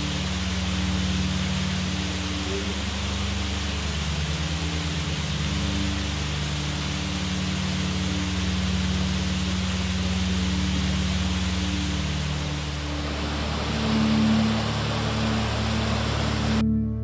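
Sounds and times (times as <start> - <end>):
waterfall rushing onto rocks: 0.0 - 16.6
low sustained tones: 0.0 - 17.0.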